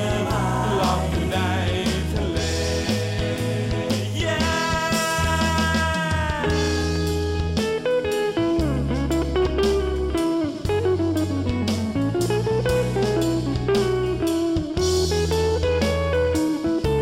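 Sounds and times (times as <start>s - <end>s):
steady drum beat: 0.0s - 8.0s, 8.6s - 17.0s
bass: 0.0s - 17.0s
sliding guitar melody: 0.0s - 17.0s.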